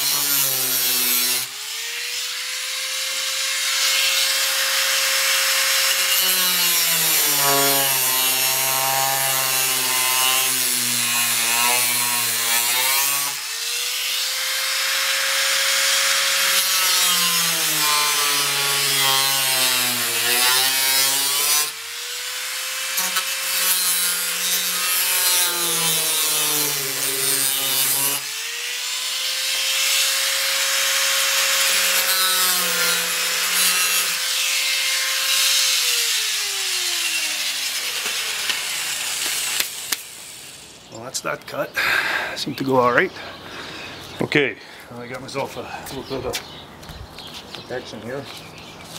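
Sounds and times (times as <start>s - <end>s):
cut-off wheel grinding fiberglass: 0.0s - 40.9s
power tool motor whine: 0.0s - 40.9s.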